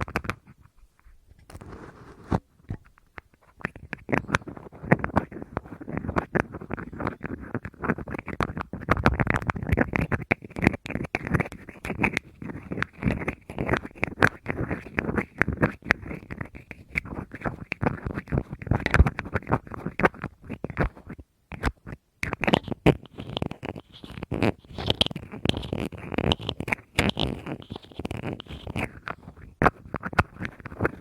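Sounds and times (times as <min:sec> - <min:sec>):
tapping and scratching on object: 0:00.0 - 0:31.0.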